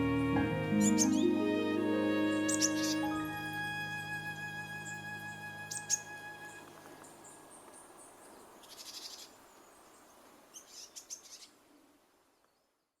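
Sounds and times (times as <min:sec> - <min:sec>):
small birds calling faintly: 0:00.0 - 0:13.0.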